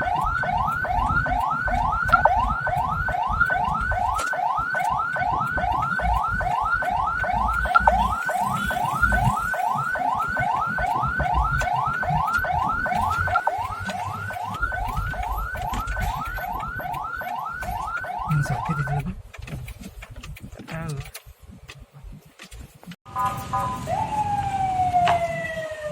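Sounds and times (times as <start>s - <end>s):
ambulance siren yelping: 0.0s - 19.0s, 23.1s - 25.9s
vehicle rumble: 0.0s - 25.9s.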